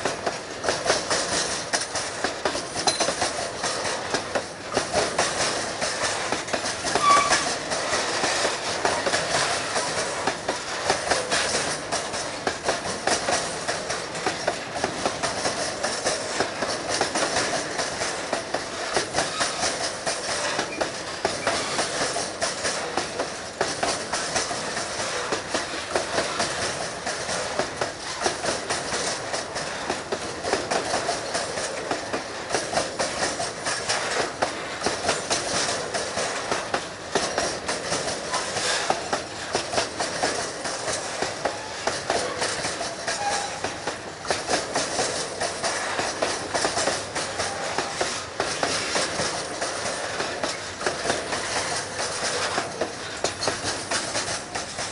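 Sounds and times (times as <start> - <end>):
train wheels clacking over rail joints: 0.0 - 54.9.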